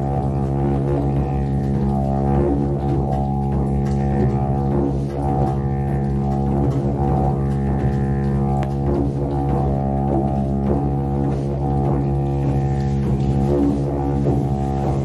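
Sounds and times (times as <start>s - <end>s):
didgeridoo drone: 0.0s - 15.0s.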